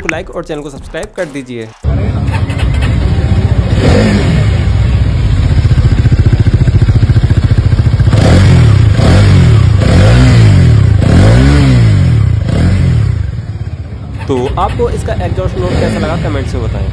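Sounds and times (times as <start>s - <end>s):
motorcycle engine idling and revving: 1.8s - 16.9s.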